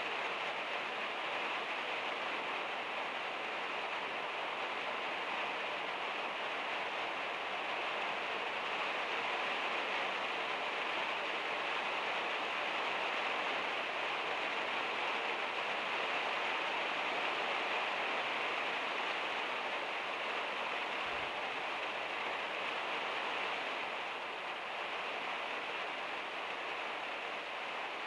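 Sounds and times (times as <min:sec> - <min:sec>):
heavy rain on a metal roof: 0:00.0 - 0:28.0.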